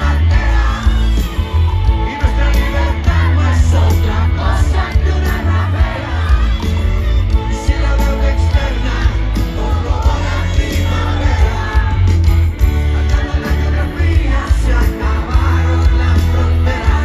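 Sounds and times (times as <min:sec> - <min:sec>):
crowd shouting: 0:00.0 - 0:17.0
live rock band: 0:00.0 - 0:17.0.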